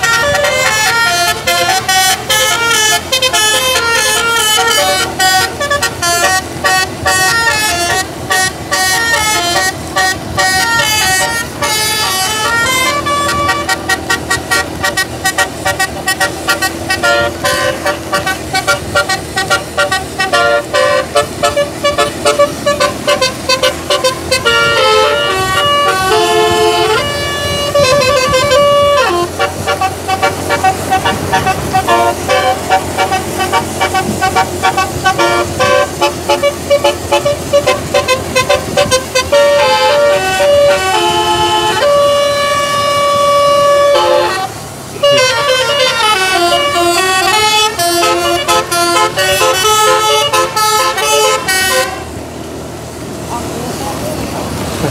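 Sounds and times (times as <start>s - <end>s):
musical air horn playing tunes: 0.0s - 52.2s.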